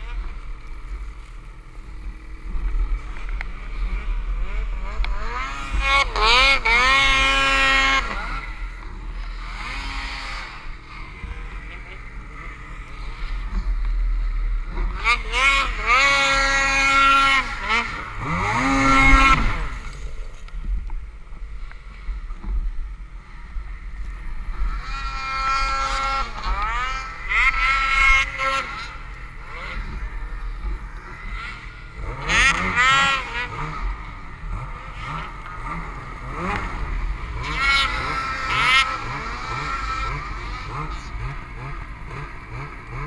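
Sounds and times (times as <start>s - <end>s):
snowmobile engines revving: 0.0s - 43.0s.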